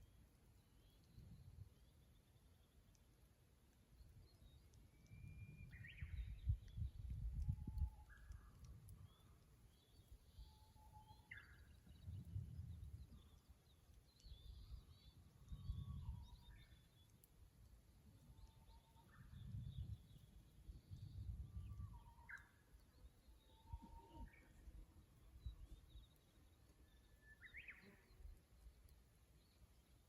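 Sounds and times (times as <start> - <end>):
small birds chirping faintly: 0.0 - 30.0.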